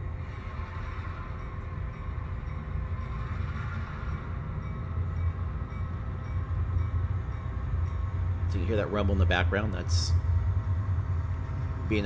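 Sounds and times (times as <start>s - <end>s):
train rumbling by: 0.0s - 12.0s.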